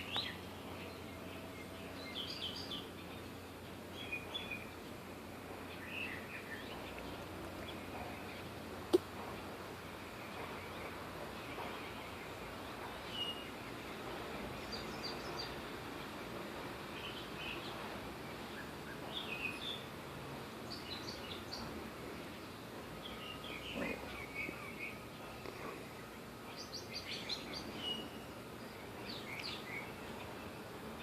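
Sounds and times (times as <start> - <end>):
birds chirping faintly: 0.0 - 31.0
outdoor background noise: 0.0 - 31.0.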